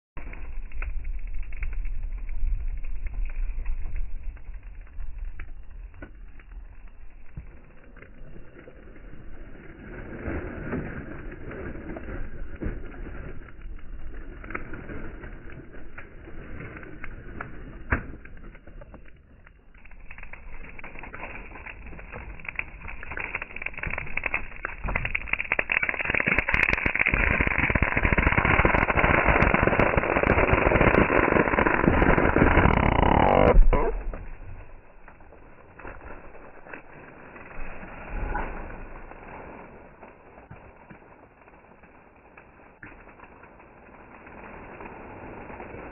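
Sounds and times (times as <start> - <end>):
wood creaking and cracking: 0.2 - 44.3.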